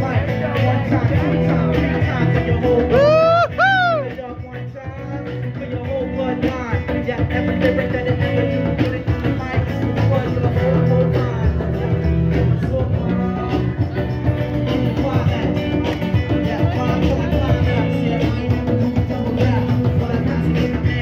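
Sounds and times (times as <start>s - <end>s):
drum beat: 0.0s - 21.0s
guitar: 0.0s - 21.0s
street band playing: 0.0s - 21.0s.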